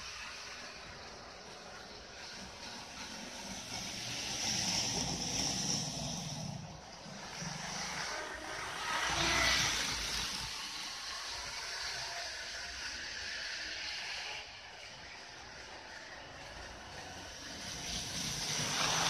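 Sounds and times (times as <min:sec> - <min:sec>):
model trains running on track: 0:00.0 - 0:19.0.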